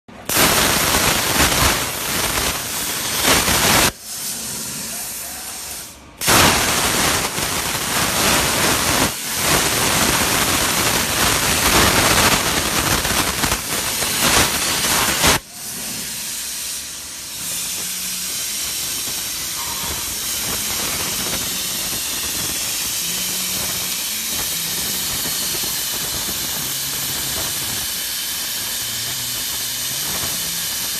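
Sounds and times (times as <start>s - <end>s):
plasma torch hissing: 0.2s - 30.9s.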